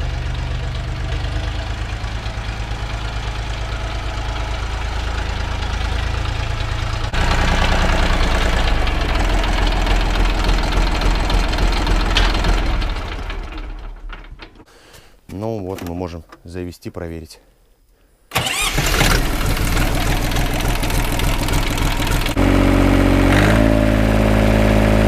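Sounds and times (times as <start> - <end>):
diesel engine running: 0.0 - 14.4, 18.4 - 25.0.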